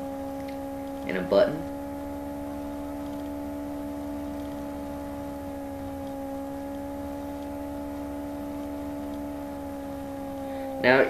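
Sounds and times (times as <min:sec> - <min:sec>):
steady hum of held tones: 0:00.0 - 0:11.0.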